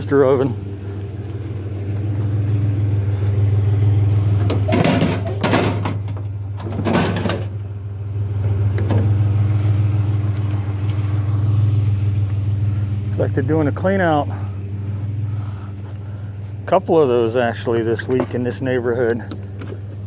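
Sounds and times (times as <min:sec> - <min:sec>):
pickup truck engine running: 0:00.0 - 0:20.0.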